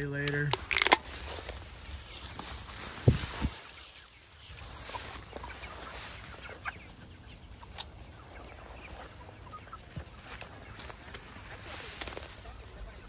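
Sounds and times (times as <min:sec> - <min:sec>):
chickens clucking softly: 0:01.2 - 0:13.0.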